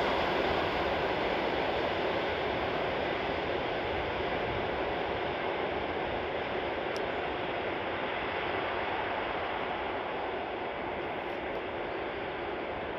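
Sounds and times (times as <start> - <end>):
distant diesel train rumbling: 0.0 - 12.9.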